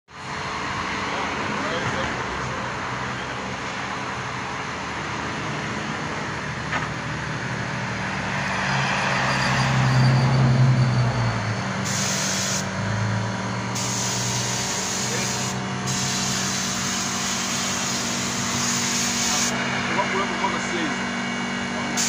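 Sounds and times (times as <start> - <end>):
road traffic noise: 0.1 - 22.0
vehicle engine hum: 0.1 - 22.0.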